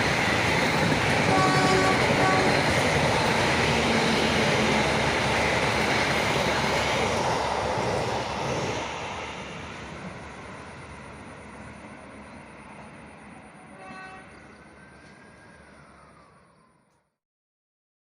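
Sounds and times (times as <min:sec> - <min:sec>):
train passing by: 0:00.0 - 0:17.0.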